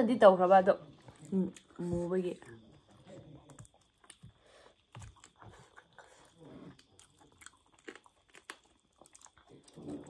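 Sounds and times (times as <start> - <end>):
faint chewing and biting: 0.8 - 10.0.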